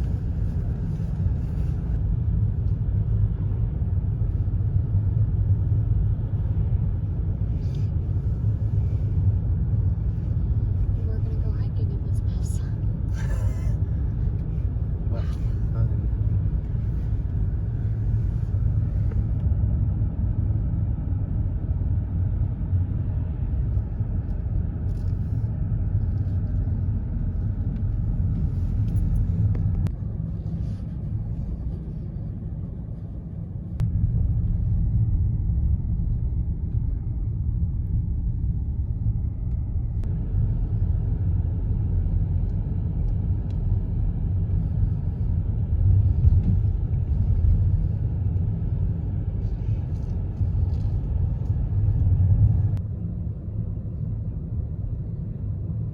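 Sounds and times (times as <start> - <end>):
car road and engine rumble: 0.0 - 55.9.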